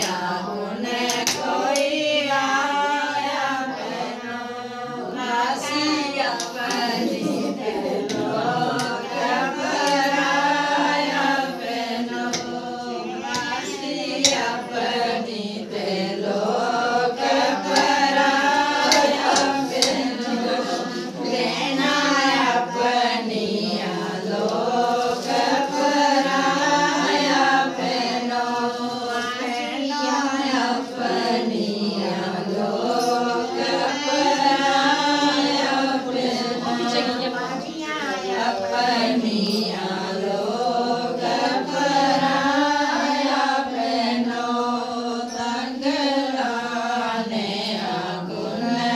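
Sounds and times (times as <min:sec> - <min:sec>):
women singing folk song: 0:00.0 - 0:48.9.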